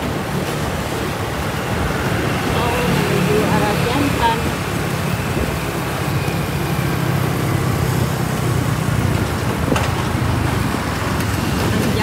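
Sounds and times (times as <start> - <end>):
motorbike engine: 0.0 - 12.0
other motorbikes in traffic: 0.0 - 12.0
rushing road noise: 0.0 - 12.0.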